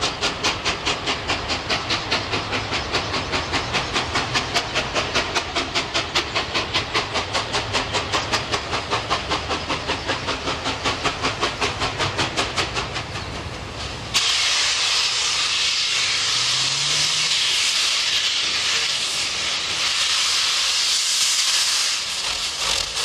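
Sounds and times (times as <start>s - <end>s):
loud hiss of escaping steam: 0.0s - 23.0s
steam locomotive exhaust chuffing: 0.0s - 23.0s.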